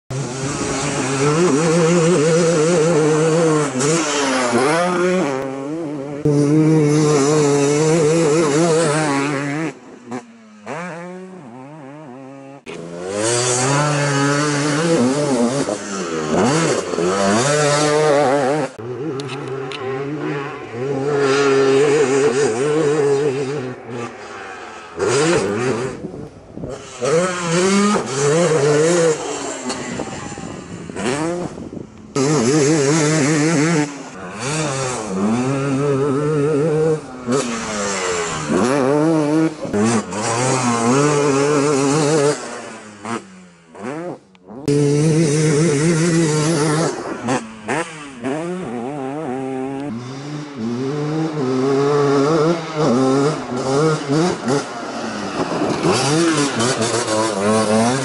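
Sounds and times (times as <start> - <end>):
quad engines revving: 0.1 - 58.0.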